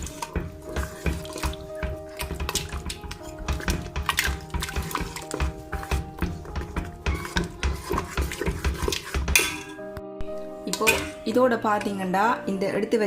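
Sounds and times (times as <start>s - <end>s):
spoon stirring and scraping pot: 0.0s - 11.3s
background music: 0.0s - 13.0s.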